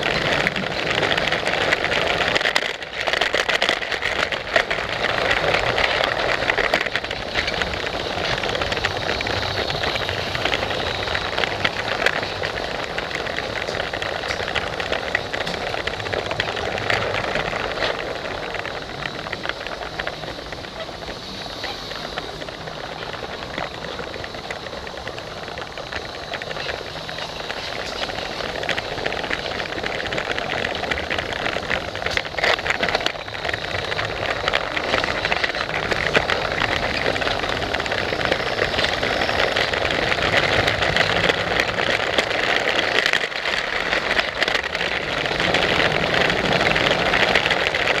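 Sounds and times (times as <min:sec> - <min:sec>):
toy train wheels clicking on track: 0:00.0 - 0:48.0.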